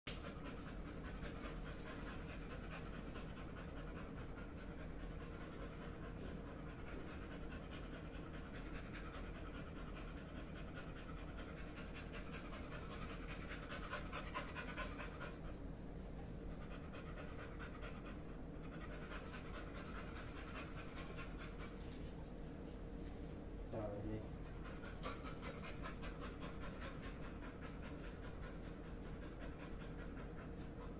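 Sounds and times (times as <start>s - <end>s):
dog panting: 0.1s - 30.9s.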